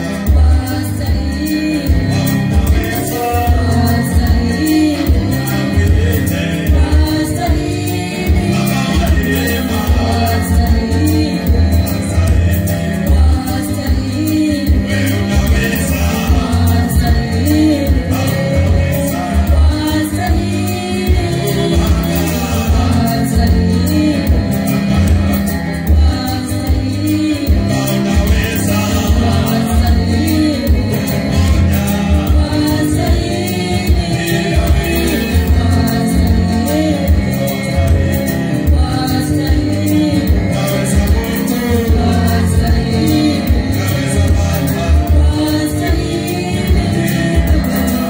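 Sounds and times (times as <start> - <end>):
bass-heavy gospel backing music: 0.0 - 48.0
person singing on a microphone: 0.0 - 48.0.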